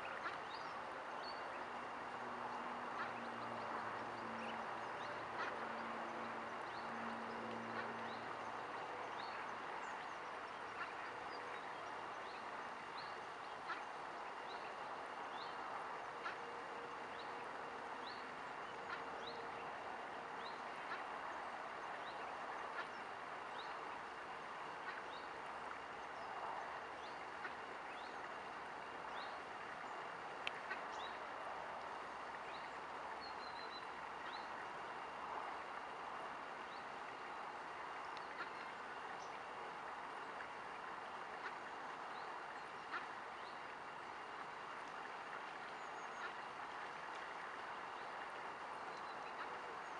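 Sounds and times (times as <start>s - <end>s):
steady hiss-like background: 0.0s - 49.9s.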